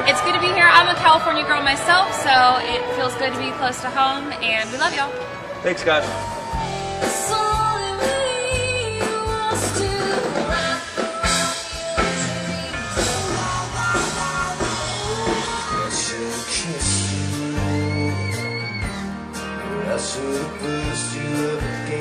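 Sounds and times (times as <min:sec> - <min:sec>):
band music: 0:00.0 - 0:22.0.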